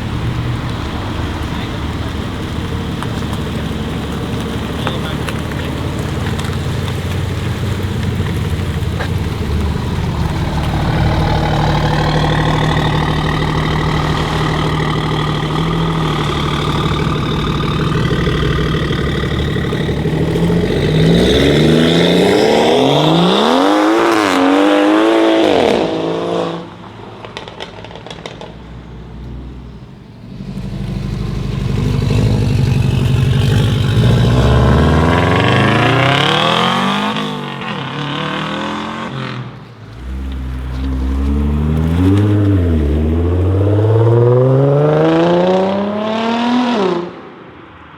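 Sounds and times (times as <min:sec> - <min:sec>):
car engine revving: 0:00.0 - 0:47.5.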